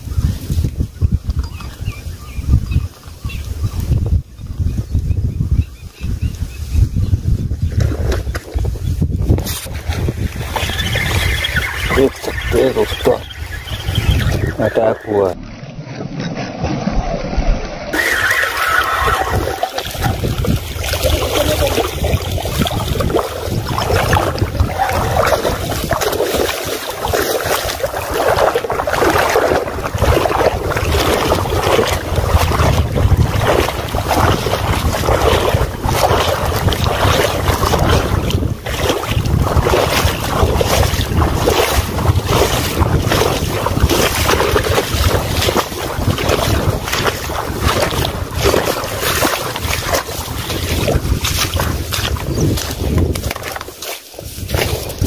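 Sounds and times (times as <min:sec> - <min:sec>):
wind buffeting microphone: 0:00.0 - 0:15.5, 0:16.3 - 0:55.0.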